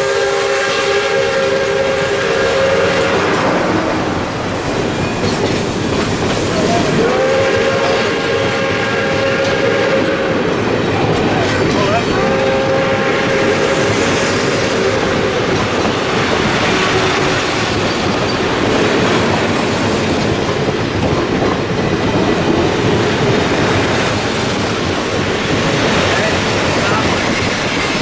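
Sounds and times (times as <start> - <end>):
steel train wheels on rails: 0.0 - 28.0.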